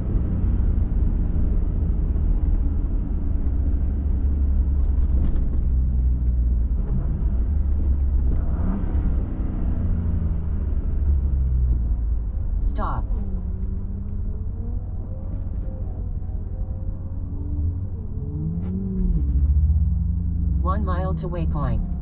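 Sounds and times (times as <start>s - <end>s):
truck engine and tyres rumbling: 0.0s - 22.0s.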